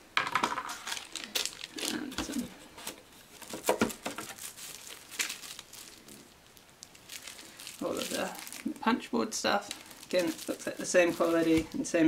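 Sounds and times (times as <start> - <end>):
plastic shrink-wrap crinkling: 0.5 - 12.0.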